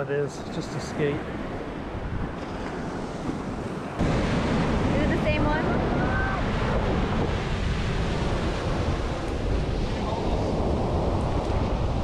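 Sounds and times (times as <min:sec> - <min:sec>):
wind buffeting microphone: 0:00.0 - 0:12.0
ocean surf breaking: 0:00.5 - 0:12.0.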